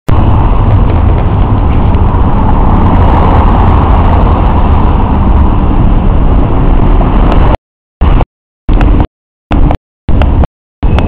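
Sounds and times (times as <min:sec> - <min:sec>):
road traffic rumble: 0:00.1 - 0:11.0.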